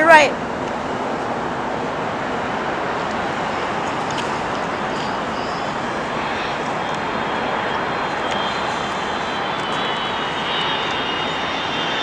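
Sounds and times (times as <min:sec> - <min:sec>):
faint high whine: 0:00.0 - 0:12.0
jet engines rushing: 0:00.0 - 0:12.0.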